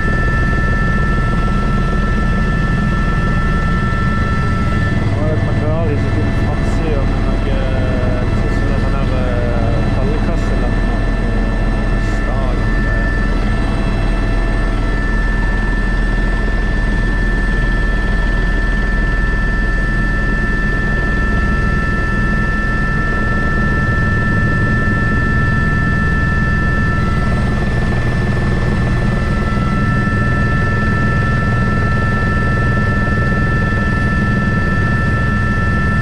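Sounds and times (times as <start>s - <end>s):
helicopter rotor drone and beat: 0.0s - 36.0s
helicopter turbine whine: 0.0s - 36.0s.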